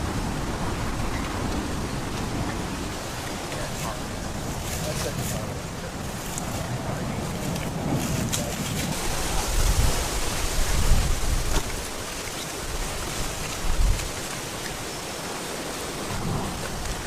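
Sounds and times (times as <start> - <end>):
lava rushing hiss: 0.0 - 17.0.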